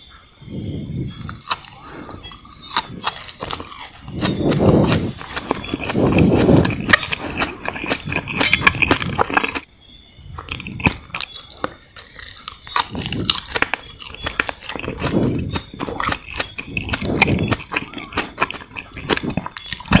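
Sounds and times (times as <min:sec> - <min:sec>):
chewing jelly candies: 0:01.0 - 0:09.7, 0:10.3 - 0:20.0.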